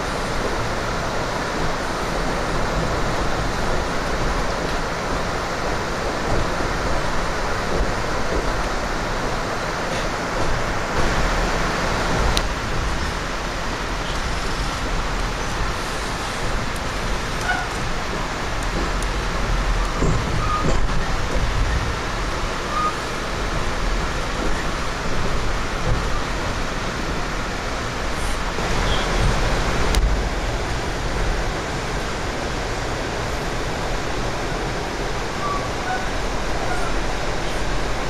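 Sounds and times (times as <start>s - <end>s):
train rumbling on track: 0.0s - 38.0s.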